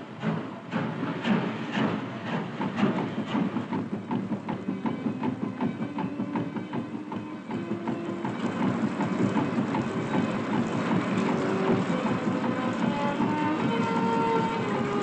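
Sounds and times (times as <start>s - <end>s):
railway carriages clattering: 0.0s - 15.0s
spraying water and brushes: 0.8s - 15.0s.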